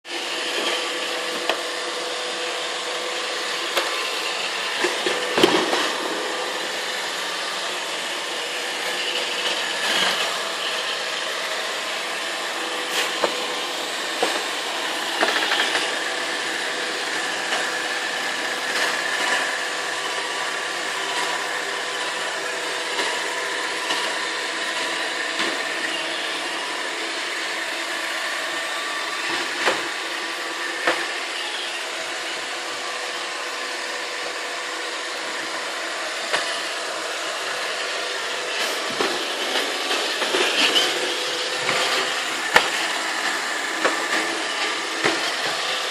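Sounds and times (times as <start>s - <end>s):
robot vacuum running: 0.1s - 45.9s.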